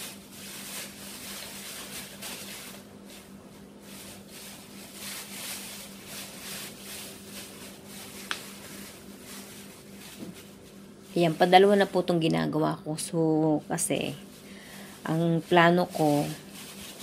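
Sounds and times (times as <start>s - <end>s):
plastic bags crinkling: 0.0s - 12.2s, 13.9s - 17.0s
steady low hum: 0.0s - 17.0s.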